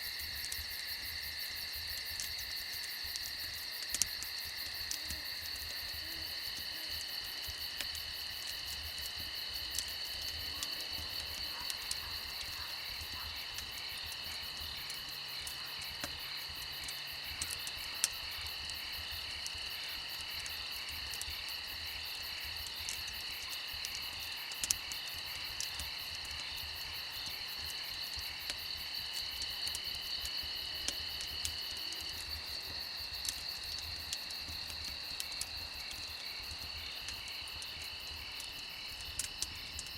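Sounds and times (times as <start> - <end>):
campfire popping and crackling: 0.0 - 39.9
crickets trilling: 0.0 - 39.9.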